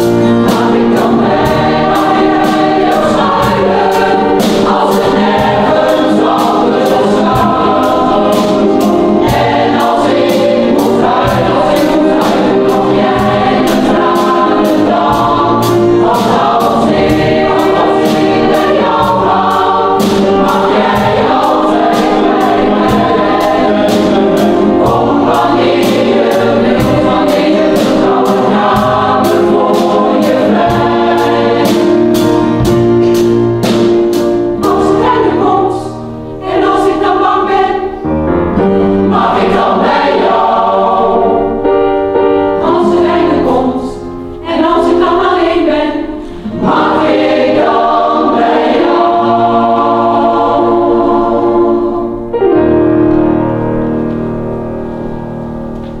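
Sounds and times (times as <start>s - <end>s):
mixed choir singing: 0.0s - 52.8s.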